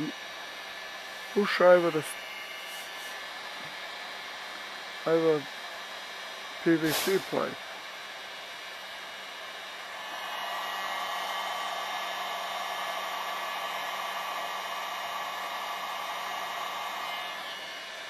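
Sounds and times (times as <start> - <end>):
heat gun blowing hot air: 0.0 - 18.0.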